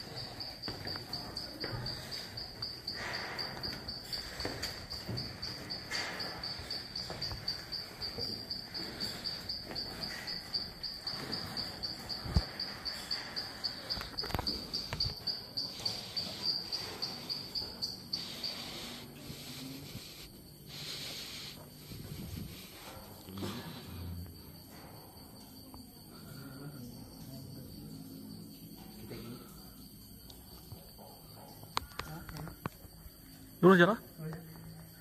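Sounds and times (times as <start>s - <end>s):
cricket chirping: 0.0s - 35.0s.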